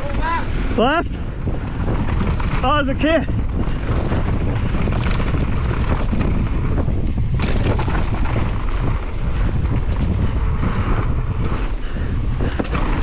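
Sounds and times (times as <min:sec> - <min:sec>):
bike rolling on dirt trail: 0:00.0 - 0:13.0
wind buffeting microphone: 0:00.0 - 0:13.0.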